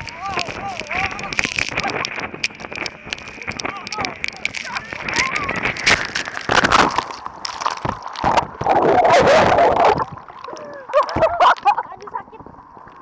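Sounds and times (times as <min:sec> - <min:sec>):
underwater gurgling: 0:00.0 - 0:13.0
water splashing over microphone: 0:00.0 - 0:13.0.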